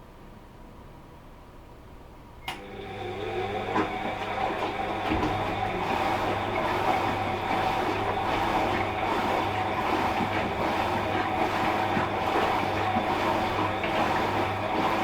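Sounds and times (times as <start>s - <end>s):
washing machine running: 2.4s - 15.0s.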